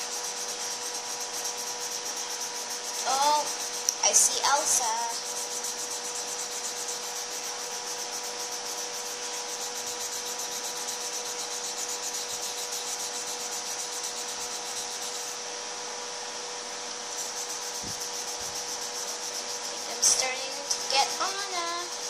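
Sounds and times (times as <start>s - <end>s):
marker scrubbing on paper: 0.0s - 15.4s, 17.1s - 22.0s
faint steady hum: 0.0s - 22.0s.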